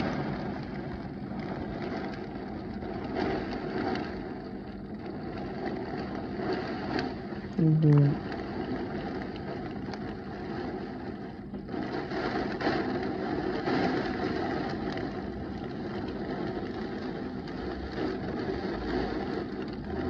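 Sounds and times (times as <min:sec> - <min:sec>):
gusting wind: 0:00.0 - 0:20.0
heavy rain pouring: 0:00.0 - 0:20.0.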